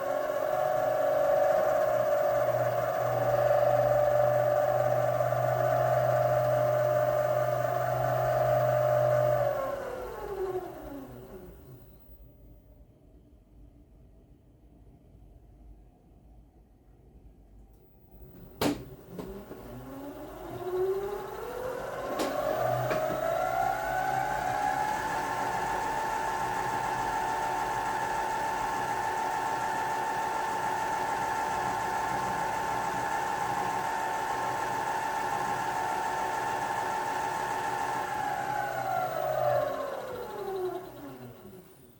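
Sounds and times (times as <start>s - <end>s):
lathe motor whine: 0.0s - 12.1s, 18.2s - 41.9s.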